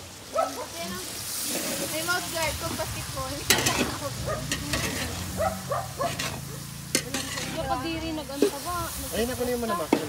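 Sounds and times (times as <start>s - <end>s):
aromatics sizzling in oil: 0.0s - 10.0s
metal spatula scraping wok: 1.2s - 10.0s.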